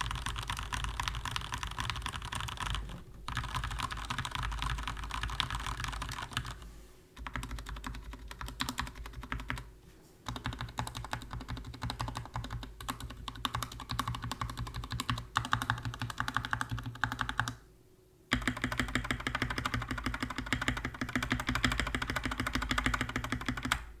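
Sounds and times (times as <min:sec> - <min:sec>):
fast typing on mechanical keyboard: 0:00.0 - 0:06.6, 0:07.2 - 0:09.7, 0:10.3 - 0:17.6, 0:18.3 - 0:23.9.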